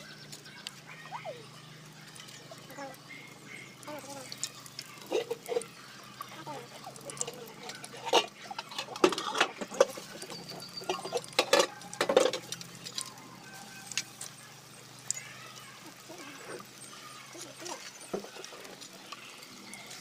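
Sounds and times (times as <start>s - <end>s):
battered food frying in oil: 0.0s - 20.0s
oil popping and crackling: 0.0s - 20.0s.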